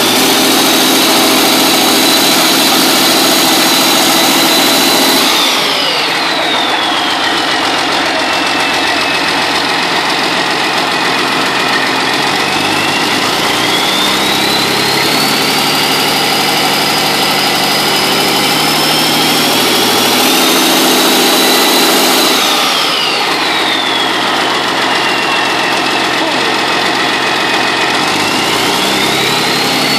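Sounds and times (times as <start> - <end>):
diesel engine revving: 0.0 - 29.9
high turbo whine: 0.0 - 29.9.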